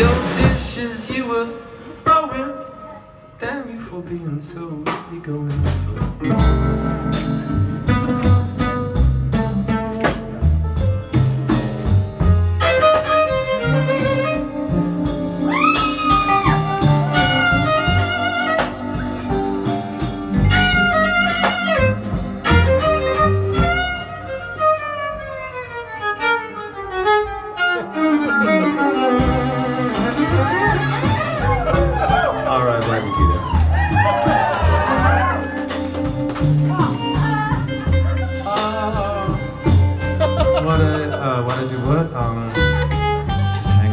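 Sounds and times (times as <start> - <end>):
low bass line: 0.0 - 3.0, 3.8 - 25.6, 28.0 - 43.9
violin melody with slides: 0.0 - 3.4, 6.0 - 43.9.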